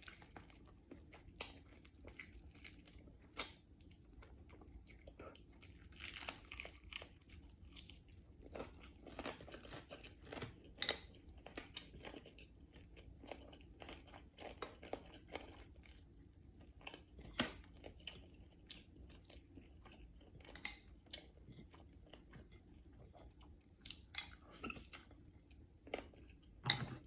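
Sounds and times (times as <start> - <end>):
chewing crispy fried fish: 0.0 - 26.6.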